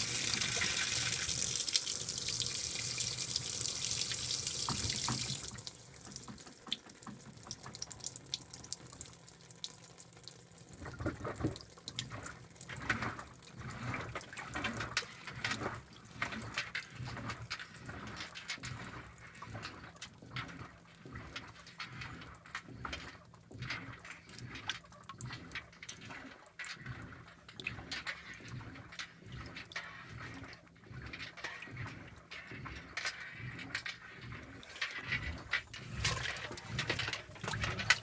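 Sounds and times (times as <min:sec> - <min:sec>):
water pouring into washing machine: 0:00.0 - 0:38.0
water swishing in tub: 0:00.0 - 0:38.0.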